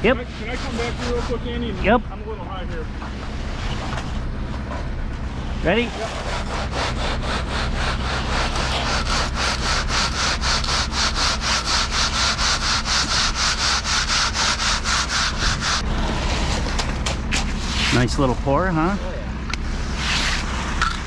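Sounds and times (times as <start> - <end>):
board scraping wet concrete: 0.0 - 1.9, 3.0 - 21.0.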